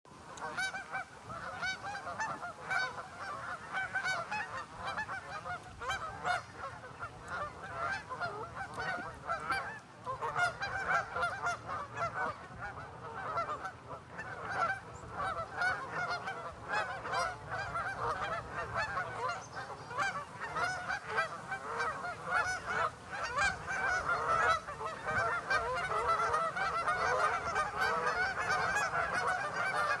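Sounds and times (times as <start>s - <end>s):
geese honking: 0.3s - 30.0s.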